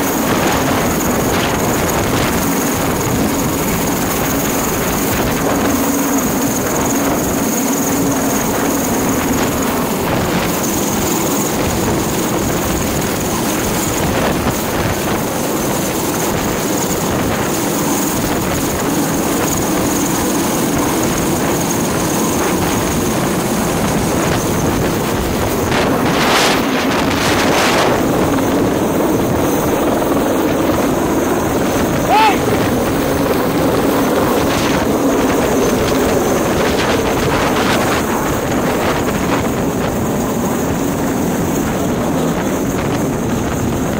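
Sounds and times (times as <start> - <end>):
helicopter rotor and engine din: 0.0 - 43.9
wind rushing over microphone: 0.0 - 43.9.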